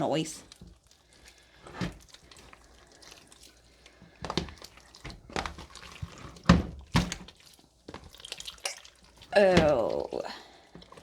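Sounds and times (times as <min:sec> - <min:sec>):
slime squelching and popping: 0:00.4 - 0:11.0.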